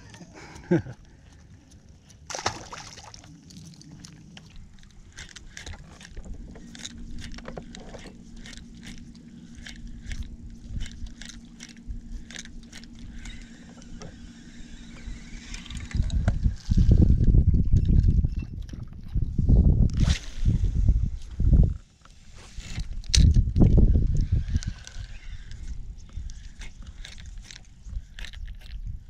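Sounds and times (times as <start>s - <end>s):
electric trolling motor humming: 0.0s - 17.8s, 20.2s - 29.0s.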